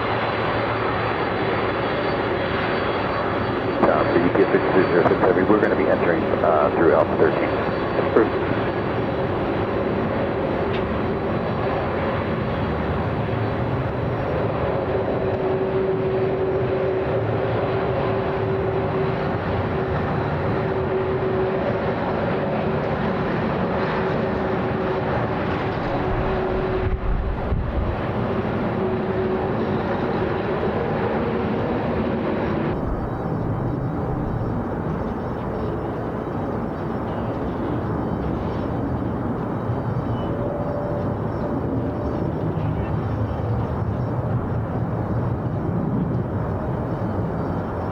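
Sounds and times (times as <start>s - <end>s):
jet engines whining: 0.0s - 47.9s.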